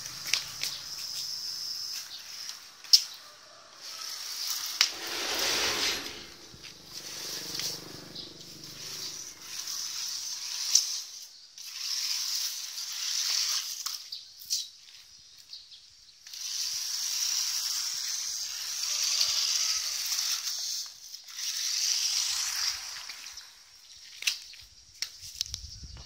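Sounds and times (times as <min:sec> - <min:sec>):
toy truck motor whirring: 0:00.0 - 0:03.2, 0:03.8 - 0:15.0, 0:16.2 - 0:25.5.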